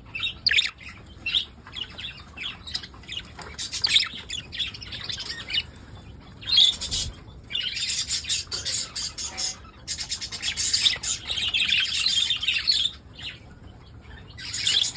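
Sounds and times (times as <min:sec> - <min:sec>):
budgerigars chirping and chattering: 0:00.0 - 0:14.9.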